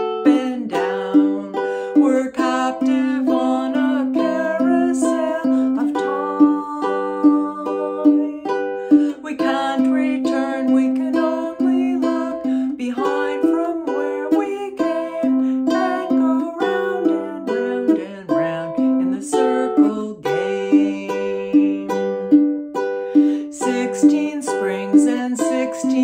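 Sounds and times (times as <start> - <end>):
ukulele playing: 0.0 - 26.0
woman singing: 0.0 - 26.0.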